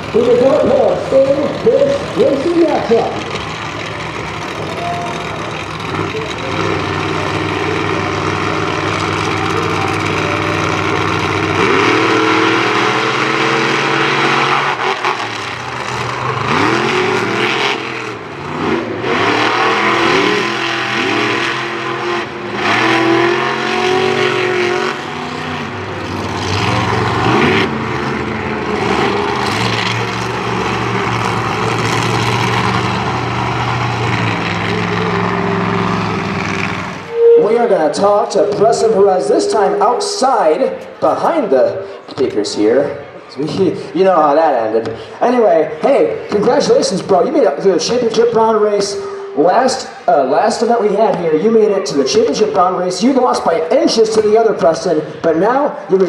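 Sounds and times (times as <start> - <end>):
monster truck engines revving: 0.0 - 56.0.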